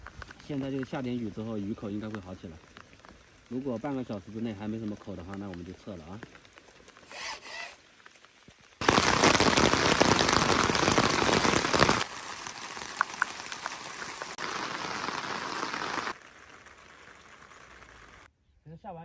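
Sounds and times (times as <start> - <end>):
sharp raindrops striking: 0.0 - 7.1, 7.8 - 18.3
rain falling: 0.0 - 18.3.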